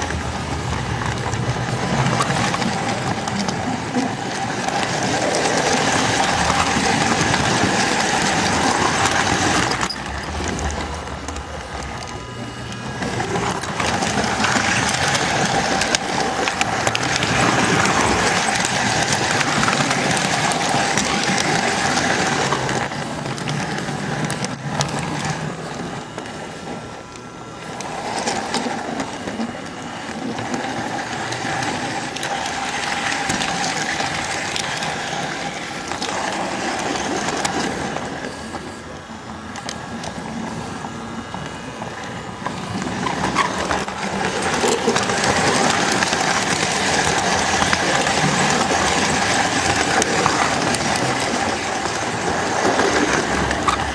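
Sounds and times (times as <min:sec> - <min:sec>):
electric motor whining: 0:00.0 - 0:53.9
wheels ticking over rails: 0:00.0 - 0:53.9.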